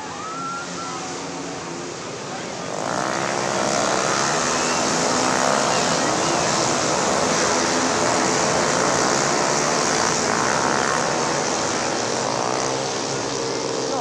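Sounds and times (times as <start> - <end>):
scooter engines revving high: 0.0 - 14.0.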